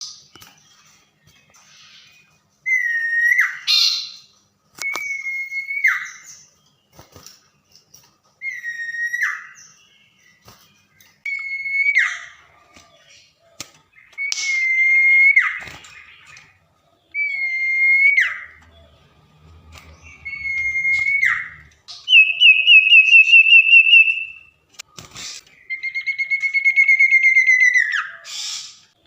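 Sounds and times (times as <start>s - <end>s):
bird whistling song: 0.0s - 6.6s, 8.4s - 19.2s, 19.8s - 24.6s, 25.6s - 29.0s.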